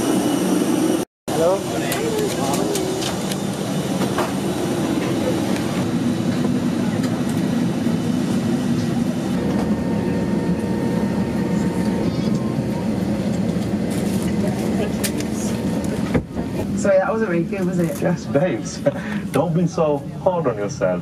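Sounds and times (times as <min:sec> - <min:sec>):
passengers talking: 0:01.3 - 0:21.0.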